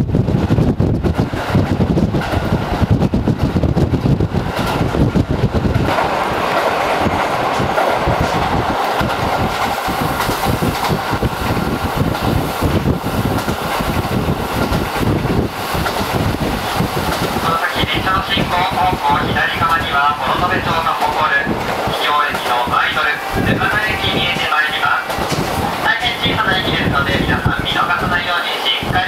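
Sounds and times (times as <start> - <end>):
diesel train rumbling: 0.0 - 29.0
train rushing noise: 0.0 - 29.0.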